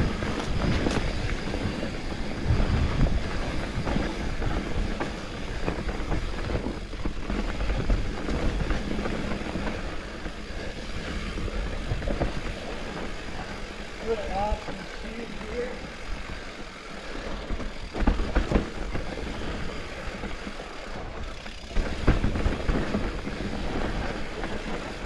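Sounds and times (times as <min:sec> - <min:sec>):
bike clicks and rattles: 0:00.0 - 0:25.0
tyres rumbling on dirt: 0:00.0 - 0:25.0.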